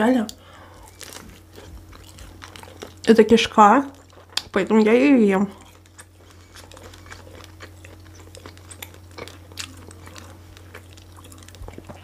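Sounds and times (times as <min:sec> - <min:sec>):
person chewing: 0:00.7 - 0:03.1, 0:03.9 - 0:04.9, 0:05.5 - 0:12.0.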